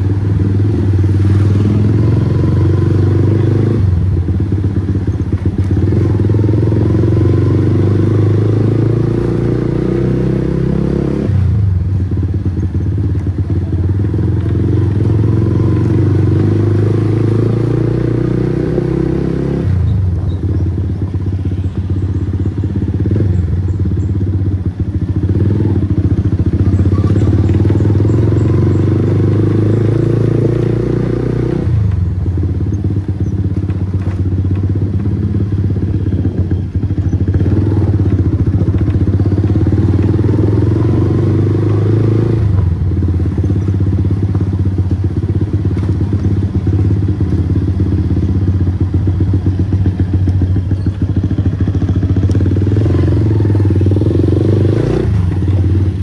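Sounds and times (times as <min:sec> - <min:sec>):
motorcycle exhaust note: 0:00.0 - 0:56.0.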